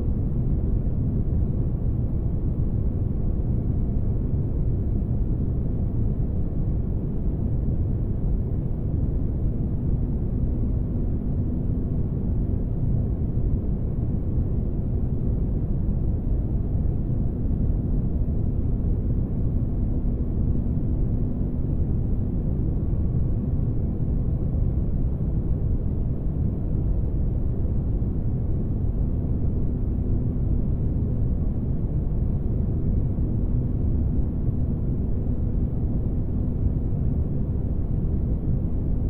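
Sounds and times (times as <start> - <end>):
faint steady hum tone: 0.0 - 39.0.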